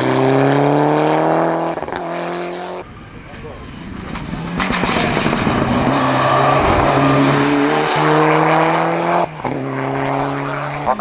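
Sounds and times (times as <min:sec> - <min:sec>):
rally car engine revving hard: 0:00.0 - 0:02.8, 0:03.9 - 0:11.0.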